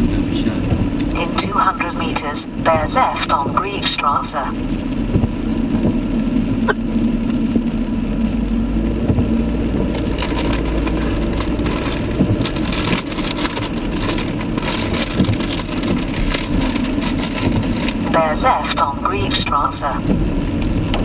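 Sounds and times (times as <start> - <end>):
car engine and tyre hum: 0.0 - 21.0
raindrops hitting windscreen: 0.0 - 21.0.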